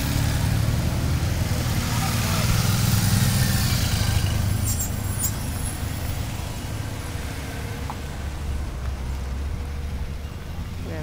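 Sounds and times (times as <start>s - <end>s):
vehicles passing with low rumble: 0.0s - 11.0s.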